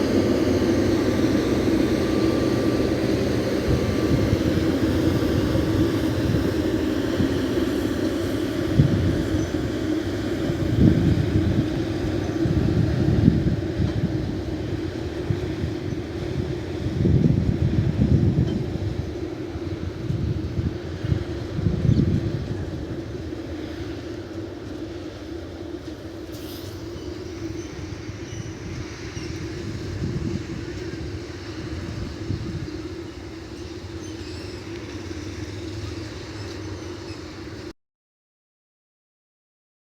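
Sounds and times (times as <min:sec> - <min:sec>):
constant hum: 0:00.0 - 0:37.7
train rumbling along track: 0:00.0 - 0:37.7.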